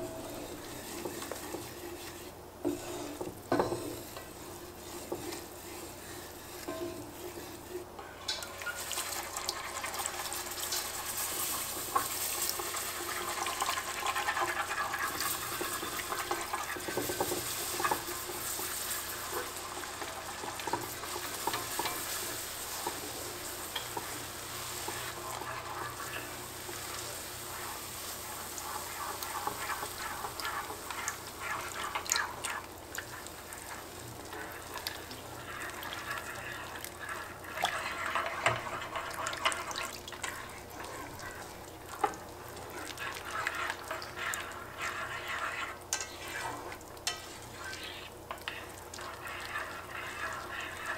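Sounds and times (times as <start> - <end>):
butter sizzling in a pot: 0.0 - 50.9
wooden spatula stirring: 0.0 - 50.9
whisk scraping and clicking on pot: 0.1 - 50.9.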